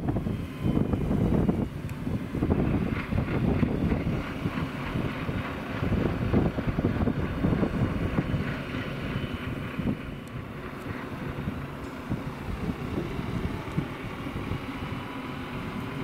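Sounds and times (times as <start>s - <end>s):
railcar diesel engine running: 0.0s - 16.0s
wind buffeting microphone: 0.0s - 16.0s.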